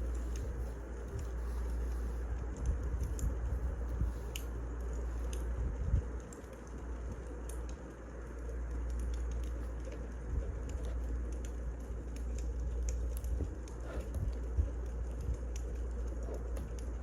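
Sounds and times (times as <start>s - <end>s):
low rumble and hiss: 0.0s - 17.0s
wood fire crackling: 0.0s - 17.0s
fire pops and clicks: 0.1s - 17.0s.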